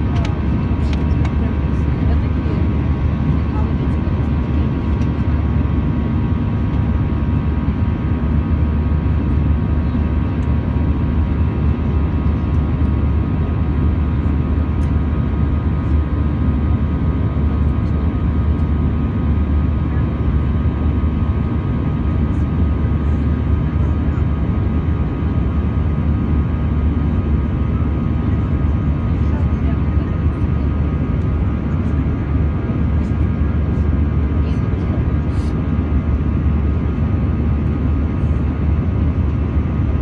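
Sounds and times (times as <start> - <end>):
faint steady engine whine: 0.0 - 40.0
jet engine cabin rumble: 0.0 - 40.0.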